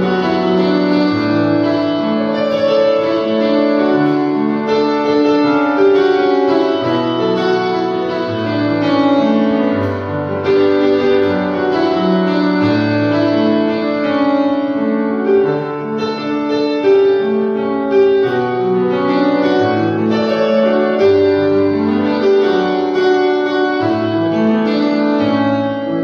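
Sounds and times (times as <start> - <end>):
electronic keyboard melody: 0.0 - 26.0.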